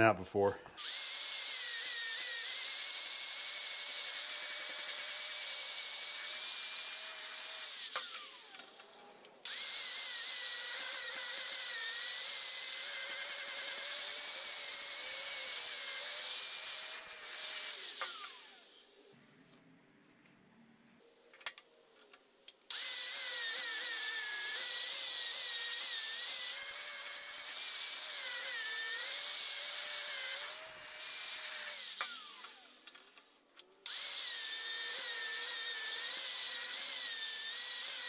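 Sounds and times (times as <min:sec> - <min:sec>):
angle grinder whining on steel: 0:00.8 - 0:19.1, 0:22.7 - 0:38.0.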